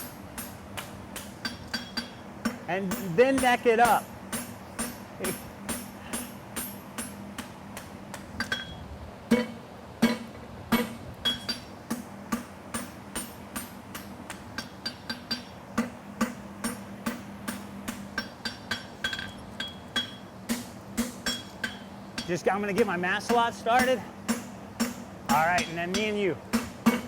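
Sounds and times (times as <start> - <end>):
hammer striking steel on anvil: 0.0 - 27.0.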